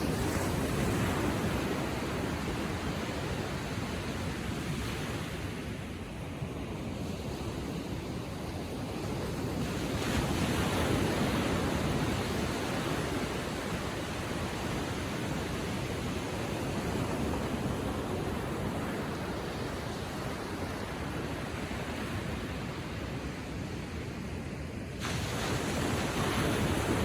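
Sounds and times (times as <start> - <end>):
gentle surf waves: 0.0 - 27.0.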